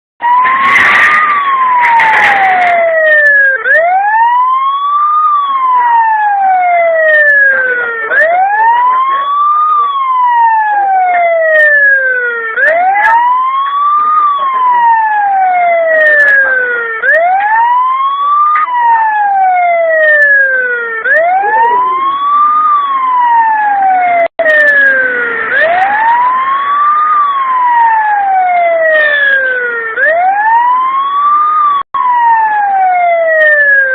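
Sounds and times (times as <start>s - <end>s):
electronic alarm siren wailing: 0.2s - 33.9s.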